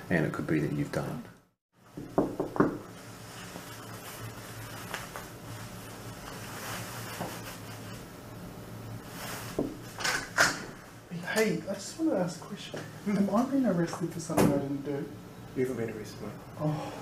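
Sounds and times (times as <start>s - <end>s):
low hum with light hiss: 0.0s - 17.0s.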